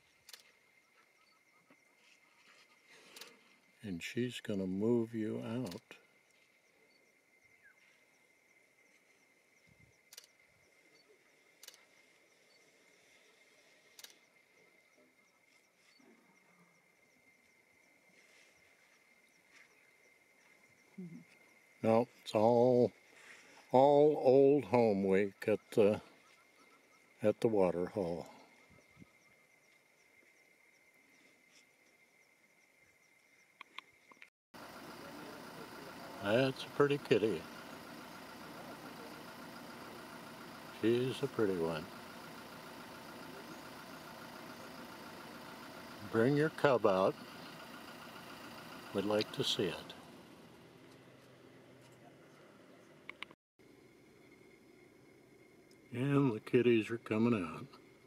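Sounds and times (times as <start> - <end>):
high insect drone: 0.0 - 53.0, 53.6 - 58.0.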